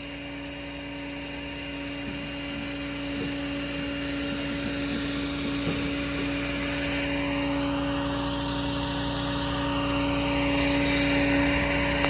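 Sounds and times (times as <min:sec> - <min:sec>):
engine humming steadily: 0:00.0 - 0:07.7, 0:10.0 - 0:12.0.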